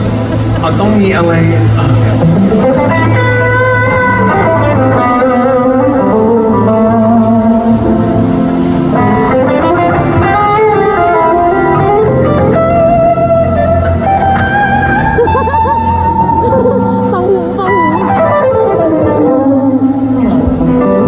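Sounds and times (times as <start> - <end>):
electric guitar solo: 0.0 - 21.0.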